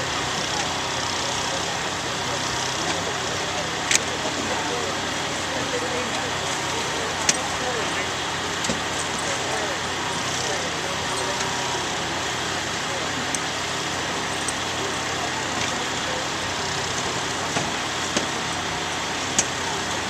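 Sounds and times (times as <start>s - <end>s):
constant roar of noise: 0.0s - 20.0s
faint voices: 0.0s - 20.0s
vehicle engine running: 0.0s - 20.0s.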